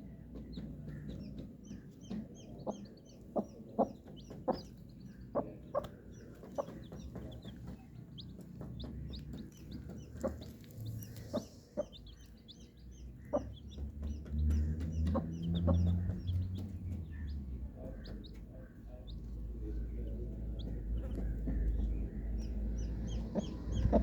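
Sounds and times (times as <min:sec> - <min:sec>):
chicks peeping: 0:00.0 - 0:24.0
hen clucking: 0:00.2 - 0:24.0.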